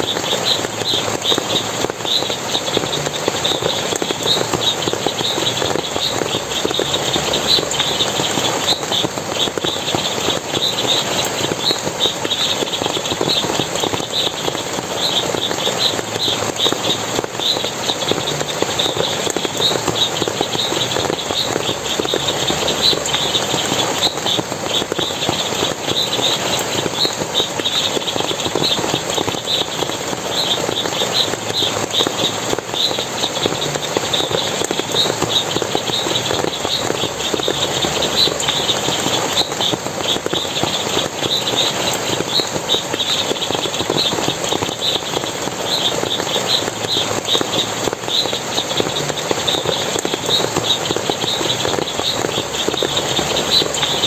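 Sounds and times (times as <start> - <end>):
water splashing: 0.0 - 54.0.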